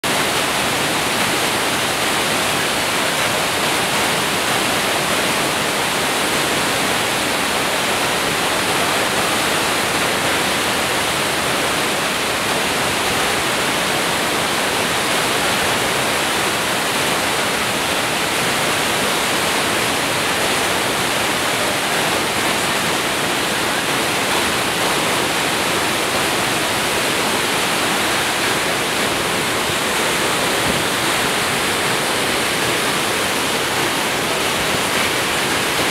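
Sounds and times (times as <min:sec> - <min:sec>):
rushing pumped water: 0:00.0 - 0:35.9.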